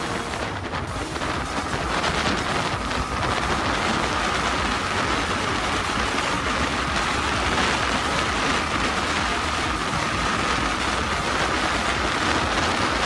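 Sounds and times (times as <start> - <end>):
faint high whine: 0.0 - 13.0
motorcycle engine running: 0.0 - 13.0
wind rushing over microphone: 0.0 - 13.0.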